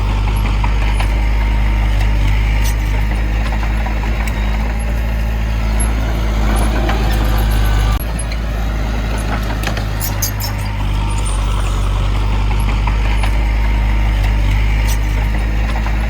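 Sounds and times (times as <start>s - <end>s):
metallic clicks and clanks: 0.0s - 8.4s, 9.1s - 16.0s
heavy diesel engine under load: 0.0s - 16.0s.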